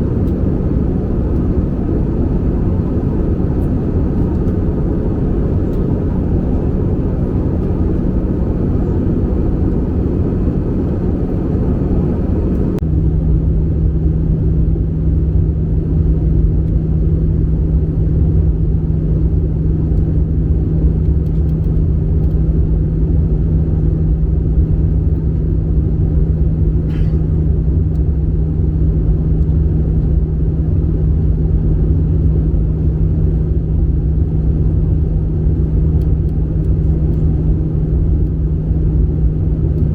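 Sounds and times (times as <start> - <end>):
aircraft cabin engine rumble: 0.0 - 39.9
constant hum: 0.0 - 39.9.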